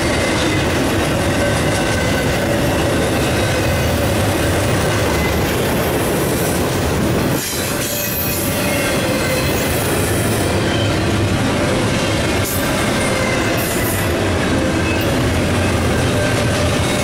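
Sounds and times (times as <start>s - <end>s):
train cars rumbling and rattling: 0.0s - 17.0s.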